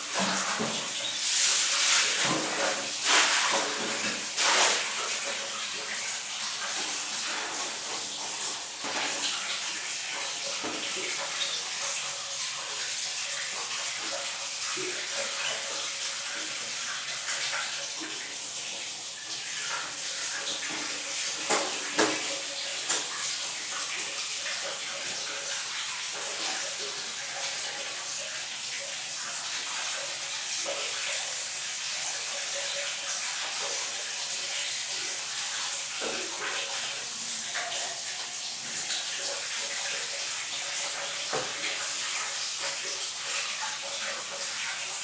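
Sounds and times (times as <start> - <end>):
water running from a tap: 0.0 - 45.0.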